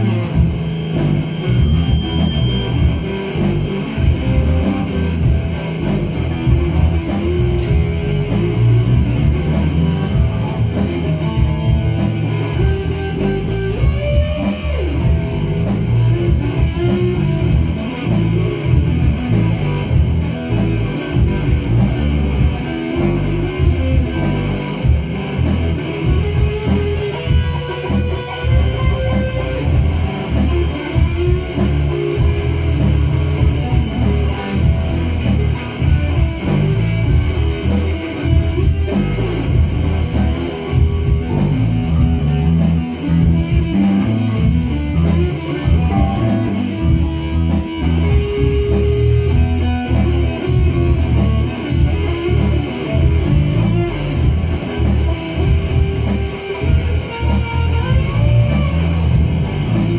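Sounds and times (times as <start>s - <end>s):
electric guitars jamming: 0.0s - 59.9s.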